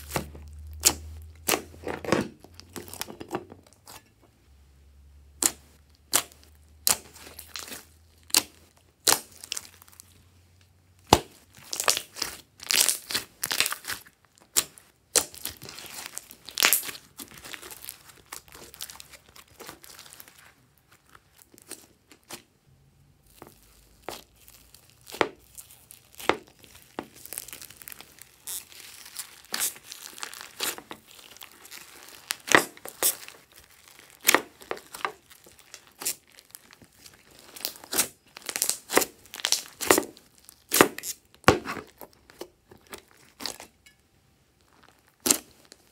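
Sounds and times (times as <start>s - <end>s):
slime popping and crackling: 0.0s - 3.3s, 5.4s - 10.1s, 11.0s - 22.4s, 23.2s - 42.4s, 44.6s - 45.9s.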